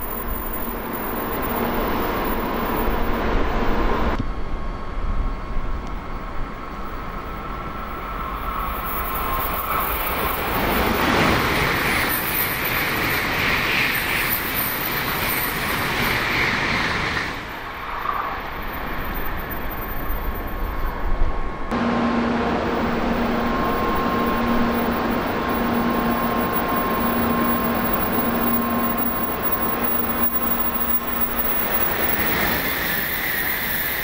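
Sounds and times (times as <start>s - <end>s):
train pulling away: 0.0s - 17.7s, 21.6s - 34.0s
high-speed train passing: 0.0s - 34.0s.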